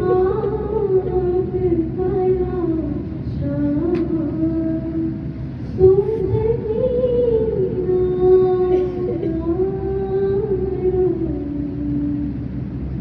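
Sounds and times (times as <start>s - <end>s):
woman chanting: 0.0s - 5.2s, 5.8s - 12.3s.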